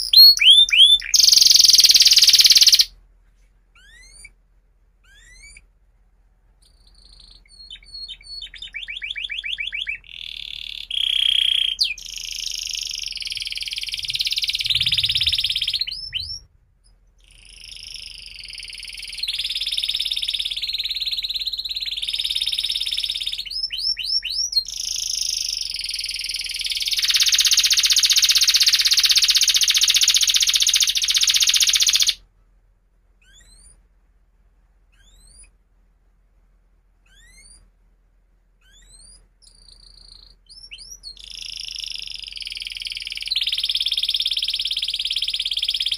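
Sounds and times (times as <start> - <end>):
canary singing trills: 0.0 - 3.0, 3.8 - 4.4, 5.0 - 5.7, 6.6 - 32.2, 33.2 - 33.8, 34.9 - 35.6, 37.0 - 37.7, 38.6 - 45.9.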